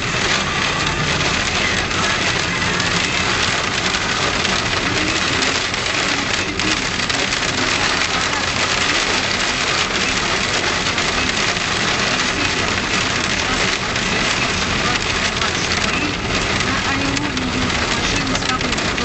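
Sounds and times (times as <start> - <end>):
hail drumming: 0.0 - 19.0.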